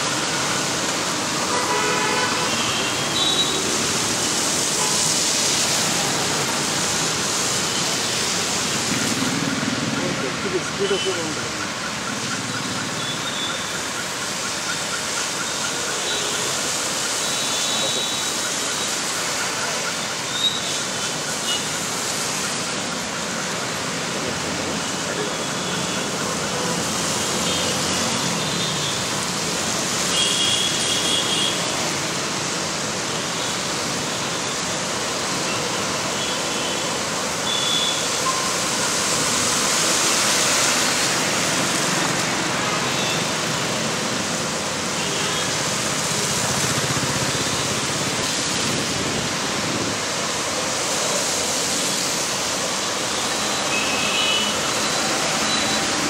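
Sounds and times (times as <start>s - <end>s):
vehicles splashing through water: 0.0s - 56.0s.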